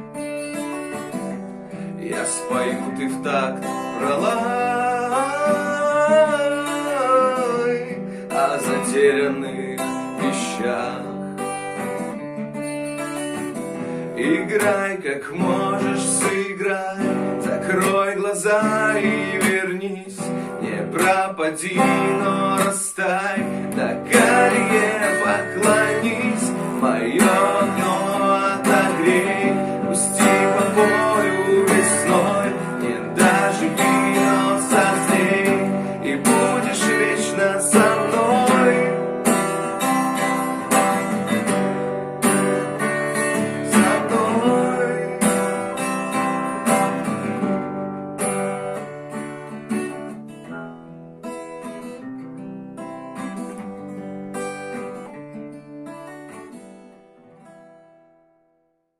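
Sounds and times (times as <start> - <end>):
acoustic guitar strumming: 0.0 - 58.8.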